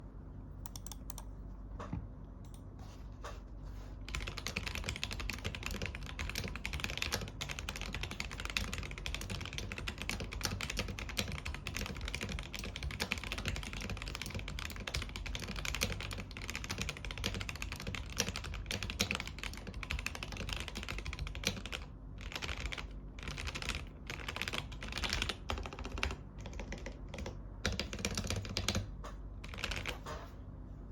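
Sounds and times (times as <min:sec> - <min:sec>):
typing on mechanical keyboard: 0:04.1 - 0:30.1.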